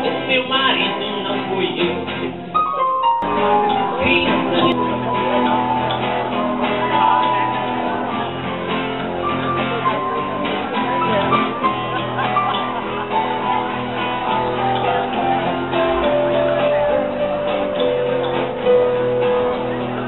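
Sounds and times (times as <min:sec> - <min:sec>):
live band music: 0:01.0 - 0:20.0.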